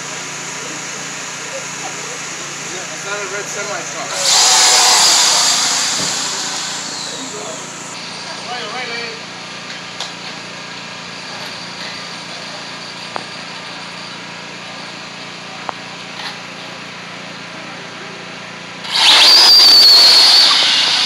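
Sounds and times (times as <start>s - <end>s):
rc cars high whine: 0.0s - 16.4s, 18.7s - 21.0s.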